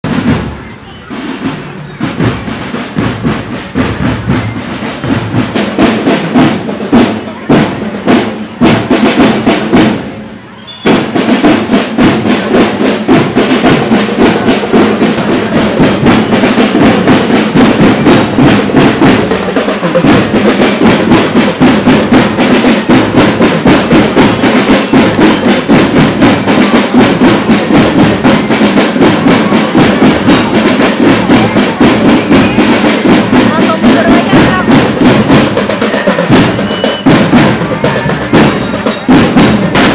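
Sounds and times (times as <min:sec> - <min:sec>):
marching drum band playing: 0:00.0 - 0:39.9.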